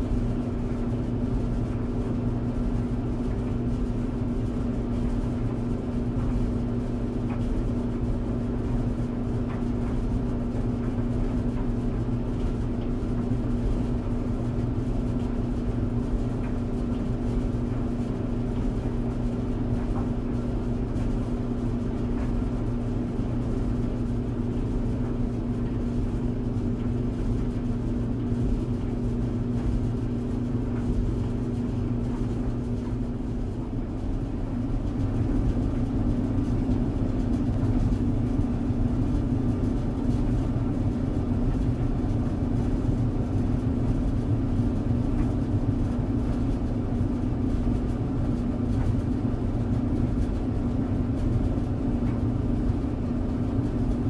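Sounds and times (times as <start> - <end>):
tumble dryer humming: 0.0 - 54.0.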